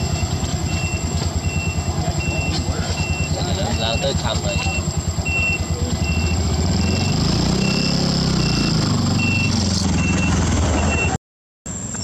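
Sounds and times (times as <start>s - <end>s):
reversing alarm beeps: 0.0s - 11.2s
vehicle engine running and revving: 0.0s - 12.0s.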